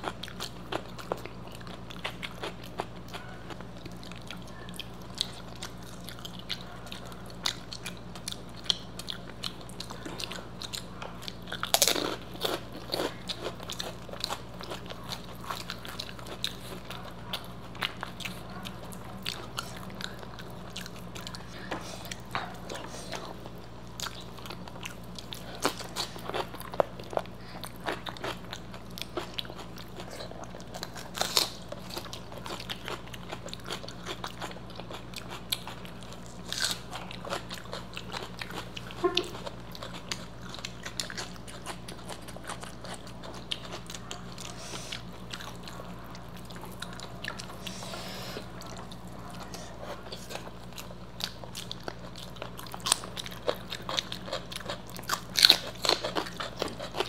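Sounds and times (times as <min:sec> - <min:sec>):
crunching crispy fried food: 0:00.0 - 0:57.0
low steady hum: 0:00.0 - 0:57.0.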